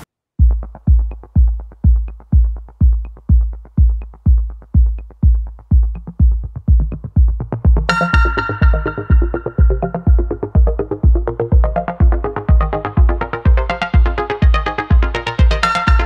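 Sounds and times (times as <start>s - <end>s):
electronic music: 0.0s - 16.0s
heavy kick drum: 0.4s - 16.0s
light ticking percussion: 0.4s - 16.0s.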